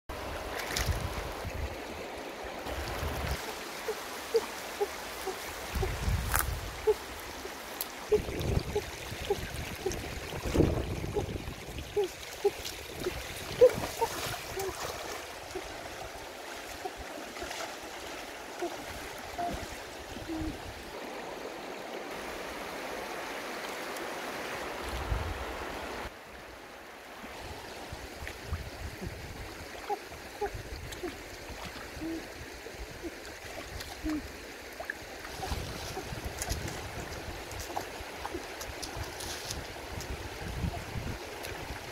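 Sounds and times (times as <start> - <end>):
water splashing and sloshing: 0.1 - 26.3, 26.9 - 41.9.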